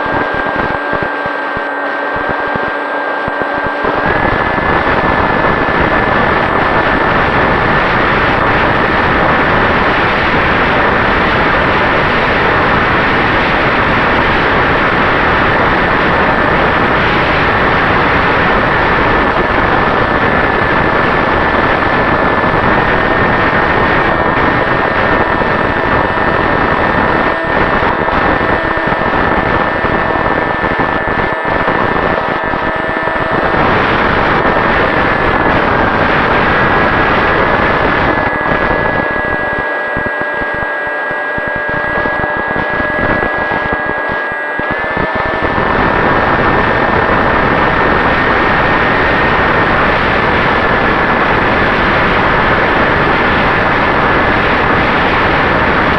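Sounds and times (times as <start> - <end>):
electric motor propeller whine: 0.0 - 55.9
wind buffeting microphone: 0.0 - 55.9.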